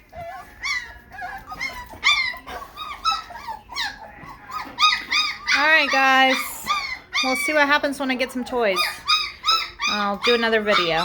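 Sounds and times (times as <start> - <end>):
puppies whining and squealing: 0.0 - 11.0.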